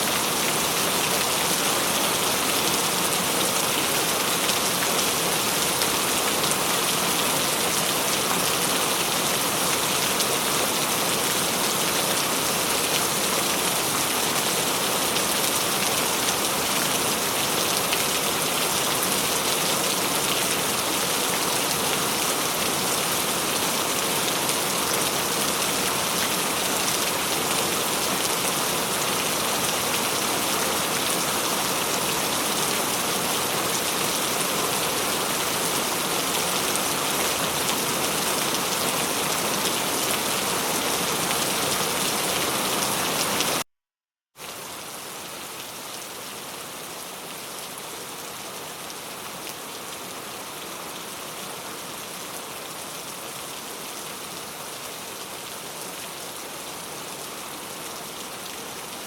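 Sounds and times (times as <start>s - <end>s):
steady rainfall: 0.0s - 43.7s, 44.4s - 59.0s.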